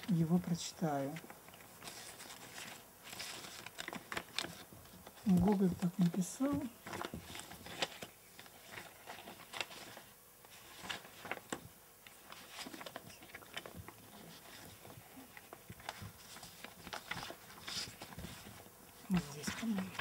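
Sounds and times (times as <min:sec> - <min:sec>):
paper rustling: 0:00.0 - 0:20.0.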